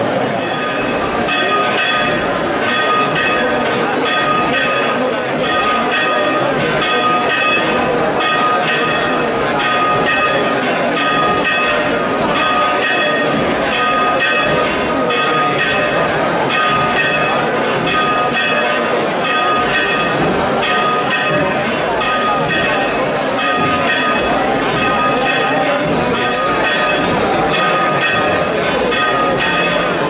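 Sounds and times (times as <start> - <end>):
church bells pealing: 0.0 - 30.0
crowd murmuring: 0.0 - 30.0.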